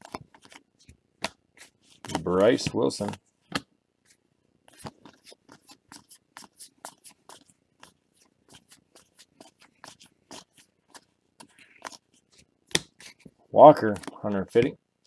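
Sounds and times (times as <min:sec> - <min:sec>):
cards clicking and swishing: 0:00.0 - 0:14.7.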